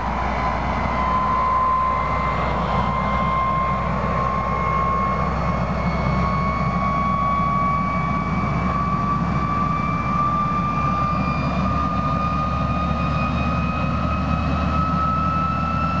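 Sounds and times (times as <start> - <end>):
jet engine rush and whine: 0.0 - 16.0.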